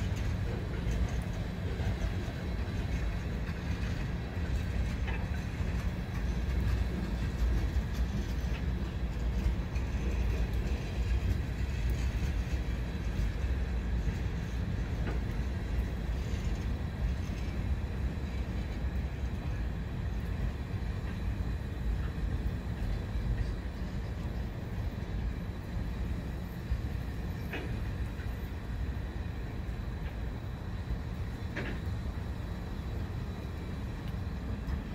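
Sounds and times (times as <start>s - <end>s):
faint rail clicks: 0.0s - 34.9s
freight train cars rumbling: 0.0s - 34.9s.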